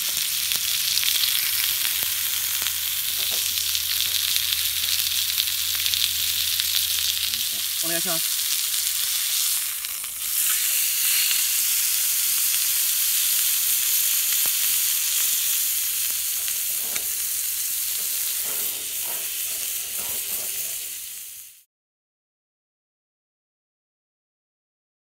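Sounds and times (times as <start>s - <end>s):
steak sizzling in oil: 0.0s - 21.7s.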